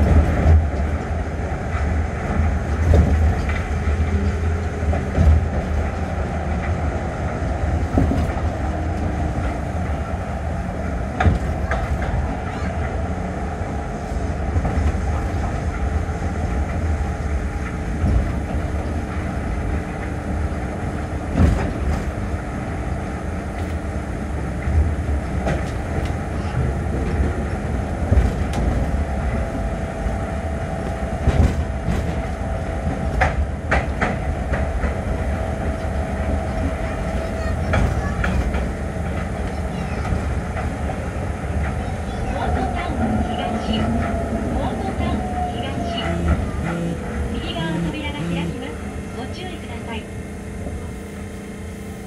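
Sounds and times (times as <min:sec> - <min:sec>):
train running rumble: 0:00.0 - 0:52.0.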